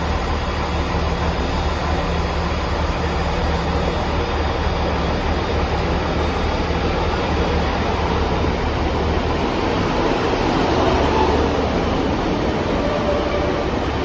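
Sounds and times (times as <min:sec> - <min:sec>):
train running past: 0:00.0 - 0:14.0.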